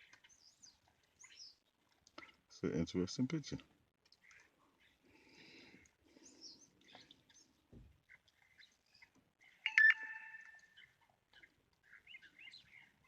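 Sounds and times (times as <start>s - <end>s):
birds chirping: 0.0s - 3.1s, 4.1s - 13.0s.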